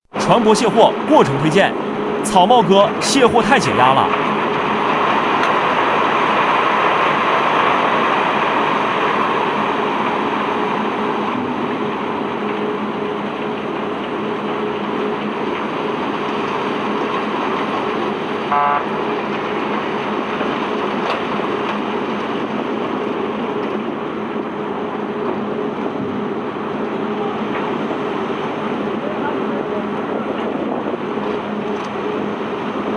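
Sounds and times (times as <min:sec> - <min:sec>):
machinery rushing and humming: 0:00.1 - 0:32.9.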